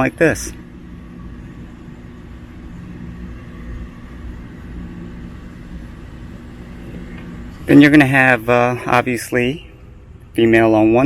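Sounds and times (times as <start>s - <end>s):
faint hum: 0.0s - 11.0s
low background rumble: 0.0s - 11.0s.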